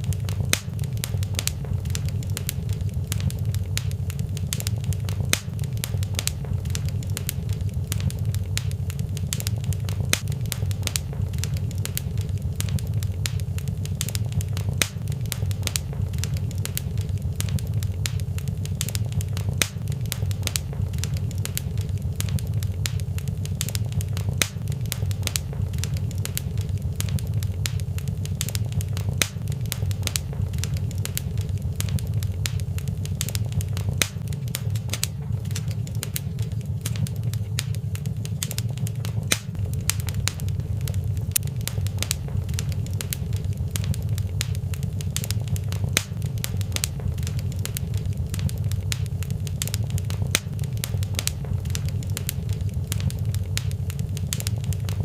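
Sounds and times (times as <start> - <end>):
low rumble of flames: 0.0 - 55.0
wood fire crackling: 0.0 - 55.0.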